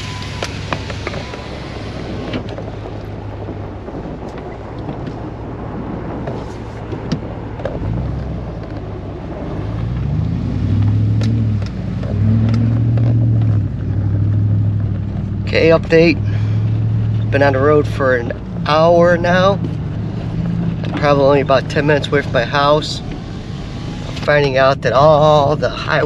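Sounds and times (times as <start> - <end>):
road noise: 0.0 - 26.0
truck engine humming: 0.0 - 26.0.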